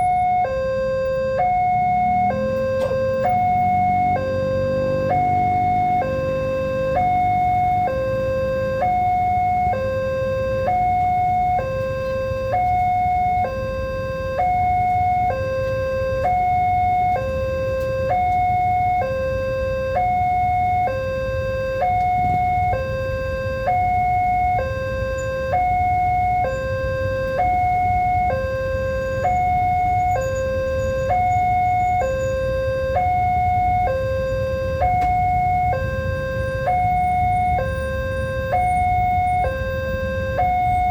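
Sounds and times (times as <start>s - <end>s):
two-tone level crossing alarm: 0.0s - 40.9s.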